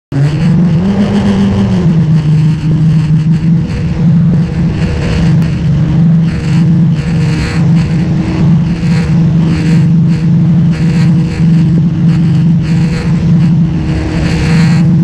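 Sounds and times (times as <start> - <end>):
boat engine running: 0.1 - 15.0.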